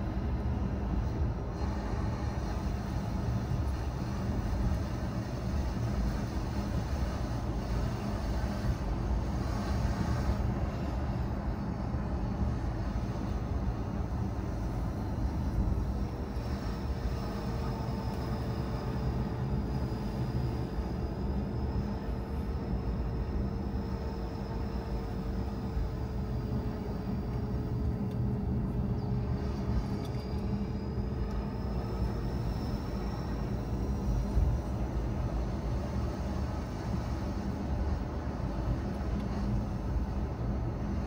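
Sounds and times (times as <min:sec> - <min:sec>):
faint steady whine: 0:00.0 - 0:41.0.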